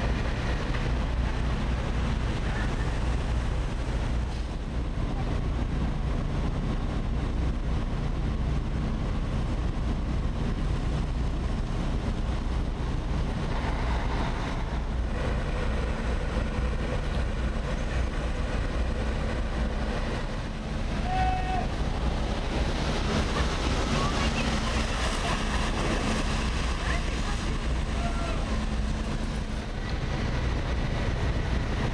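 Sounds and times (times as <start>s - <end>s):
diesel engines rumbling: 0.0s - 31.9s.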